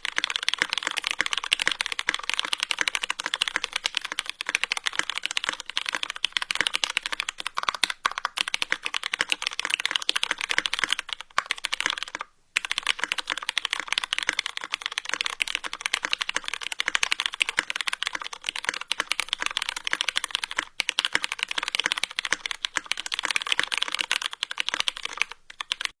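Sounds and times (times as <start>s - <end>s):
fast keyboard typing: 0.0s - 26.0s.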